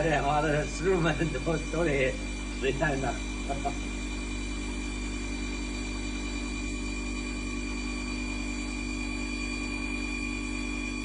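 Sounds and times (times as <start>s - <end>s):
grinding machine hum and hiss: 0.0s - 11.0s.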